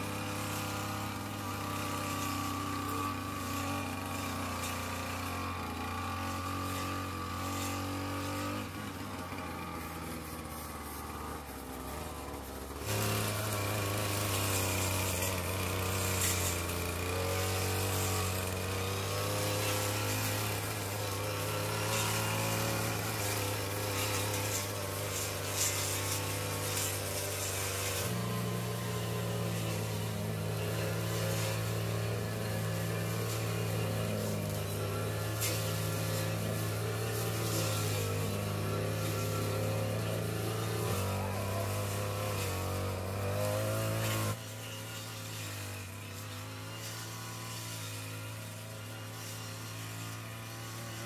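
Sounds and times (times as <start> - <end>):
brush cutter engine cutting grass: 0.0 - 51.0.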